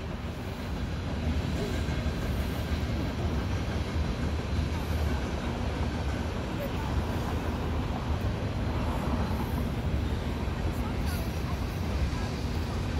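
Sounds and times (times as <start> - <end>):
freight train wheels rumbling: 0.0 - 12.9.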